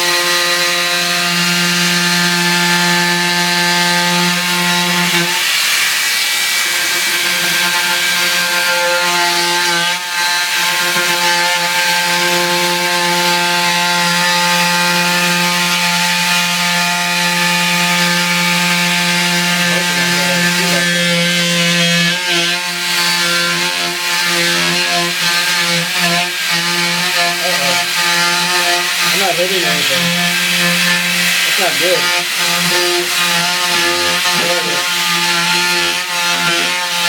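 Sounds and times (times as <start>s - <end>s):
power tool cutting drywall: 0.0s - 37.0s.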